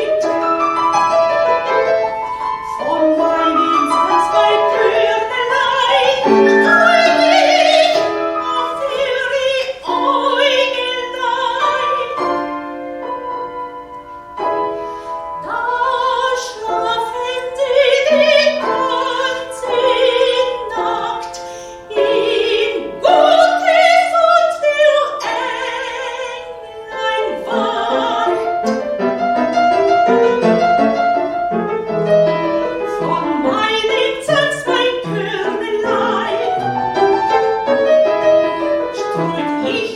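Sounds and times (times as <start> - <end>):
soprano singing with vibrato: 0.0 - 13.5, 15.2 - 29.0, 30.2 - 39.9
piano accompaniment: 0.0 - 39.9.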